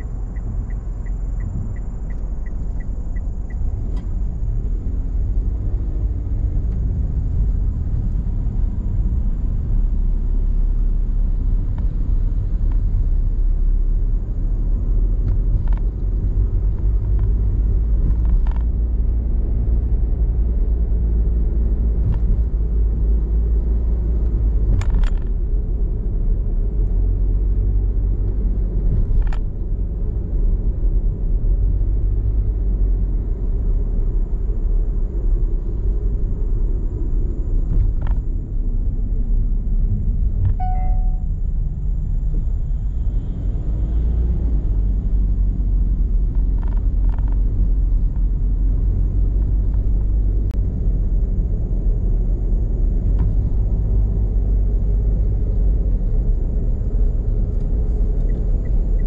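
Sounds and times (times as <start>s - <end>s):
car engine rumble: 0.0s - 59.0s
road noise: 0.0s - 59.0s.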